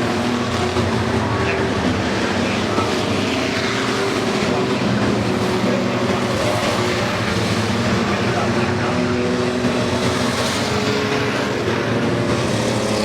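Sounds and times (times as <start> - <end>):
racing truck engines droning: 0.0 - 13.0.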